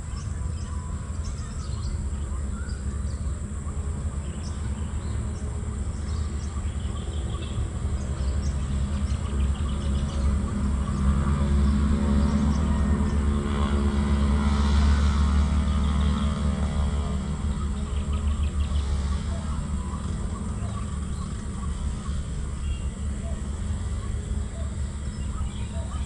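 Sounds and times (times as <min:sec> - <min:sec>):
birds chirping: 0:00.0 - 0:26.0
engine hum: 0:00.0 - 0:26.0.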